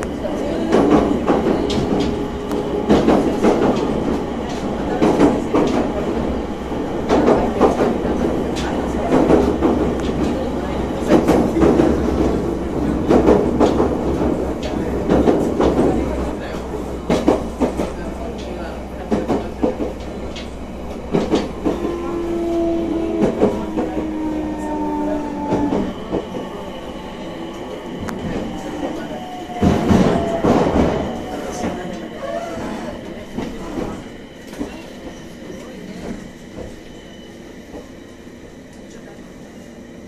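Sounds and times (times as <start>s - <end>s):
train running noise: 0.0s - 40.0s.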